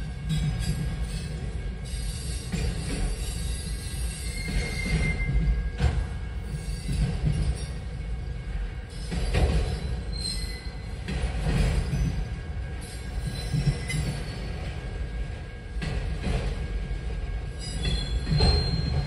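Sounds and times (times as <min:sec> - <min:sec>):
rumble of wheels on rail: 0:00.0 - 0:19.0.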